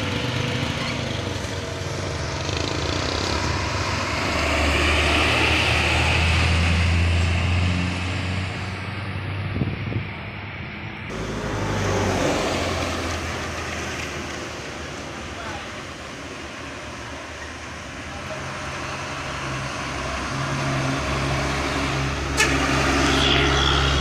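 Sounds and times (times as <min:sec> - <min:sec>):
bus engine passing: 0:00.0 - 0:24.0
truck passing: 0:00.0 - 0:24.0.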